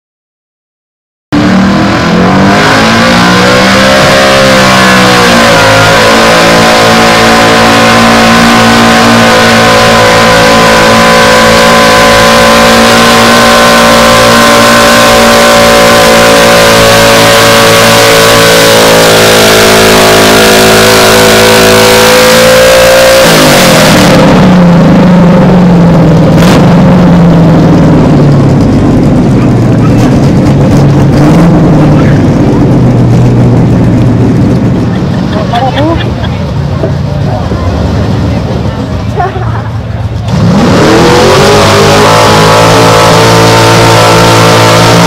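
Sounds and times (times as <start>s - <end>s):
truck engine at full throttle: 1.3s - 45.0s.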